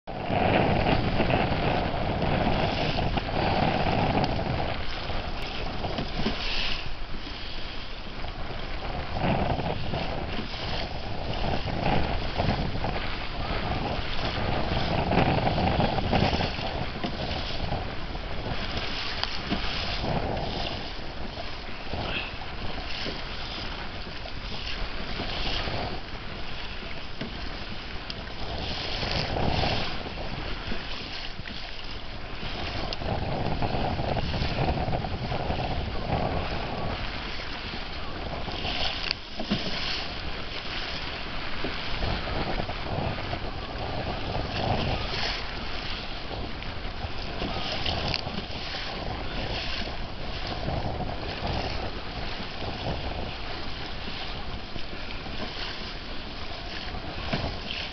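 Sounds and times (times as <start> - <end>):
wind buffeting microphone: 0.0 - 57.9
water slapping against kayak hull: 0.1 - 57.9.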